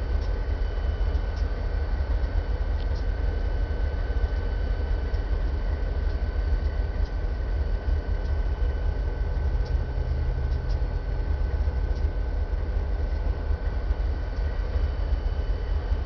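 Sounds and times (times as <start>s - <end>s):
locomotive engine rumble: 0.0s - 16.0s
locomotive whine: 0.0s - 16.0s.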